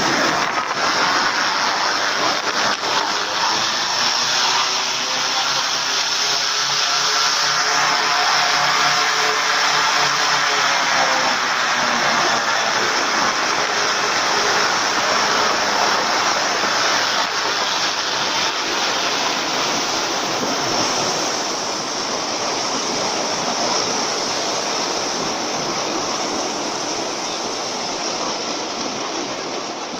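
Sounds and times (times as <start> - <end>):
airboat propeller and engine: 0.0 - 29.9
water rushing: 0.0 - 29.9
wind: 0.0 - 29.9.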